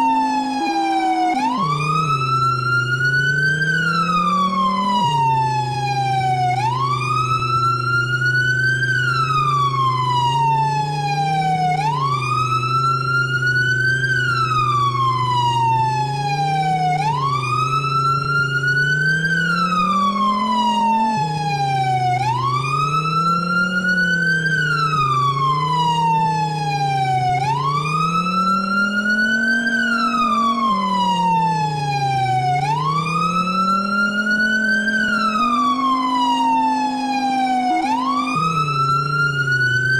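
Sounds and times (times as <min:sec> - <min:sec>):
emergency siren wailing: 0:00.0 - 0:39.9.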